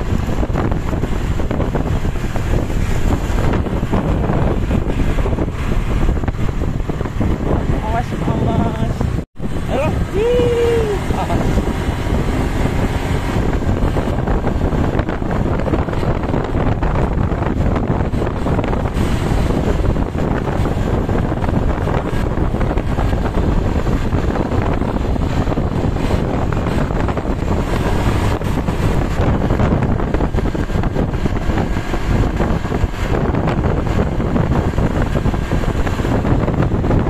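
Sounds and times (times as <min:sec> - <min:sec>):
road and engine noise: 0:00.0 - 0:37.0
wind buffeting microphone: 0:00.0 - 0:37.0.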